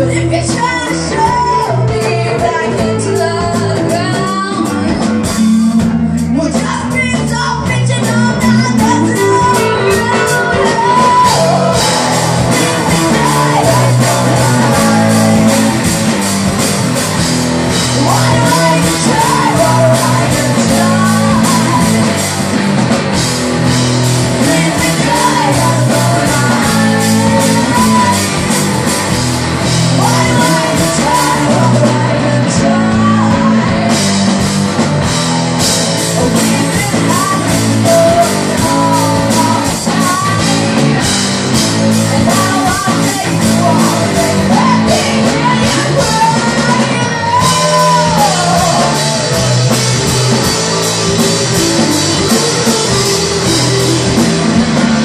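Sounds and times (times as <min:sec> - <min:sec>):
woman singing: 0:00.0 - 0:16.6, 0:17.7 - 0:22.6, 0:24.2 - 0:34.4, 0:36.0 - 0:54.2
drum kit beat: 0:00.0 - 0:55.0
electric bass: 0:00.0 - 0:55.0
electric guitars: 0:00.0 - 0:55.0.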